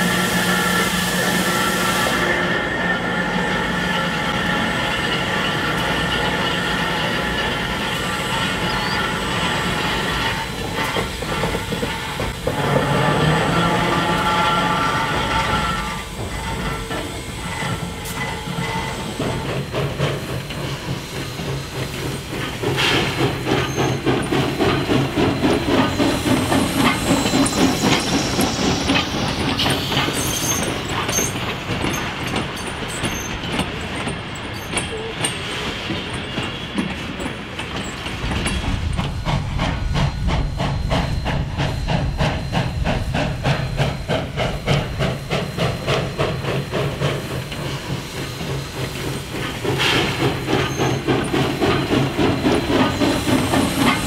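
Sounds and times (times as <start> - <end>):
steady hiss of steam: 0.0 - 54.0
steam locomotive exhaust chuffs: 0.0 - 54.0.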